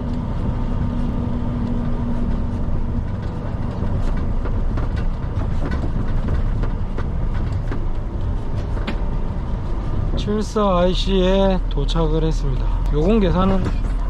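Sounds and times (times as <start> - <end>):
light rattles and clicks: 0.0 - 14.0
road noise: 0.0 - 14.0
truck engine rumble: 0.0 - 14.0.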